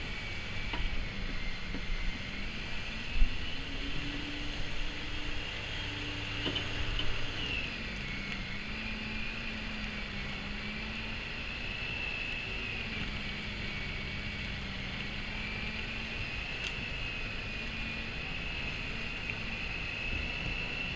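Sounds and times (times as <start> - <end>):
snow blower running: 0.0 - 20.9.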